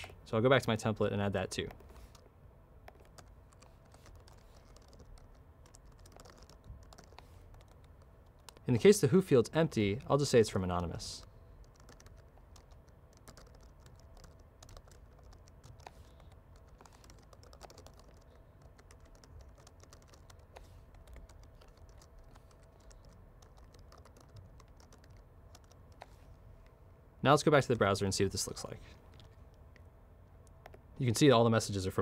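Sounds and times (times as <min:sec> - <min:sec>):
faint keyboard typing: 0:00.8 - 0:09.0, 0:09.7 - 0:26.8, 0:28.4 - 0:30.9.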